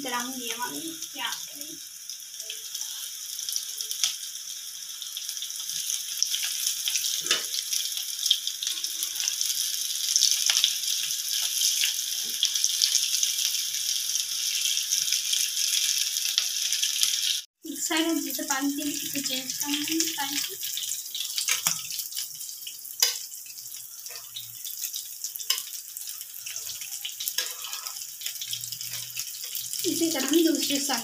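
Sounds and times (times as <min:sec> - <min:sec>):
oil sizzling with pops: 0:00.0 - 0:31.0.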